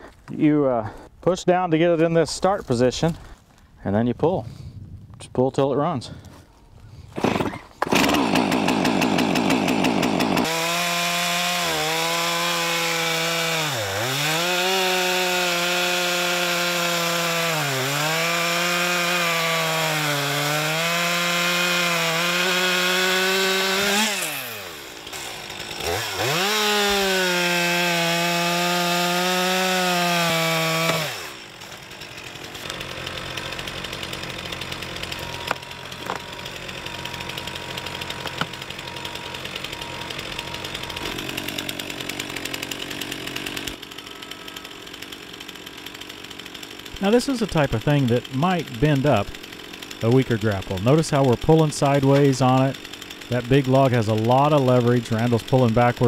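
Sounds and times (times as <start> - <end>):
chainsaw cutting log: 7.0 - 56.0.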